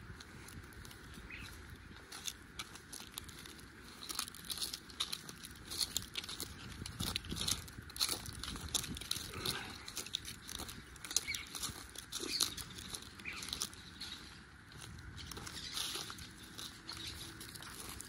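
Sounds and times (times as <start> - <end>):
footsteps crunching through dry leaves: 0.0 - 18.0.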